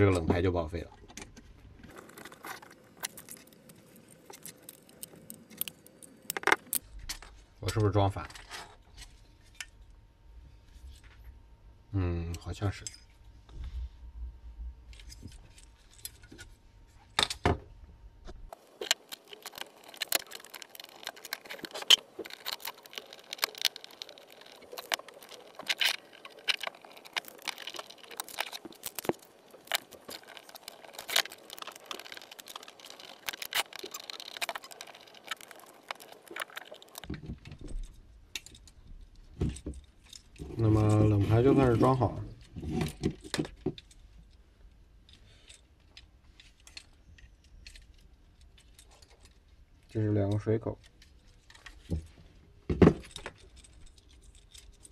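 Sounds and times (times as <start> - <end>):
small metallic clicks and rattles: 0.8 - 10.0, 14.8 - 17.5, 18.5 - 54.9.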